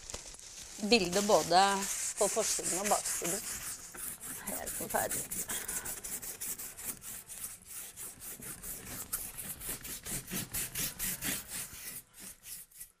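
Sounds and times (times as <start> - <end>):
rag scrubbing over canvas: 0.7 - 13.0.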